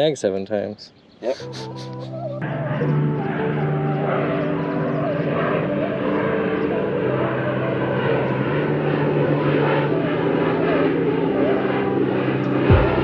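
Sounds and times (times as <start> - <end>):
boat motor droning: 1.6 - 13.0.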